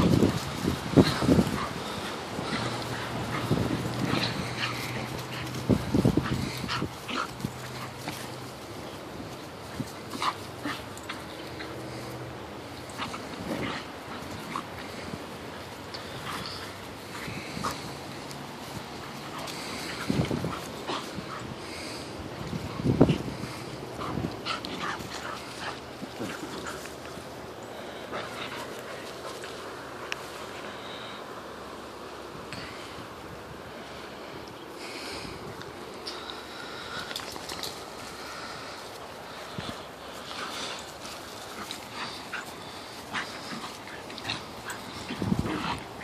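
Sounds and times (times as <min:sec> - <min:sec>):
dogs play-fighting: 0:00.0 - 0:46.0.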